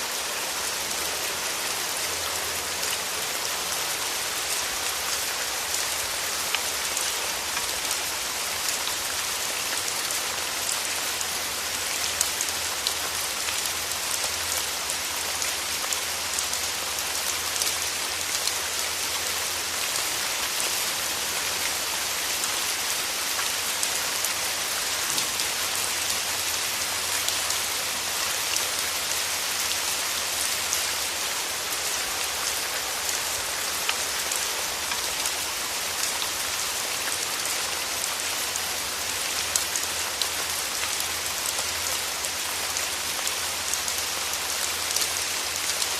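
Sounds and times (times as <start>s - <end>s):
steady rain pattering: 0.0s - 45.9s.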